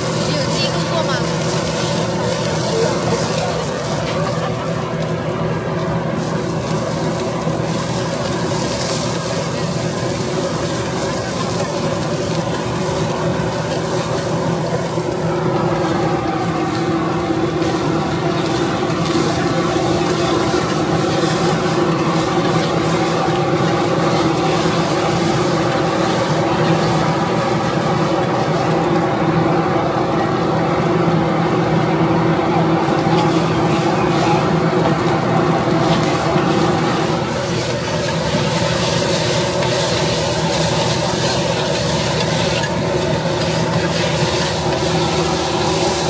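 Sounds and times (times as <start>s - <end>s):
machine hum: 0.0s - 46.0s
noodles sizzling on griddle: 0.0s - 46.0s.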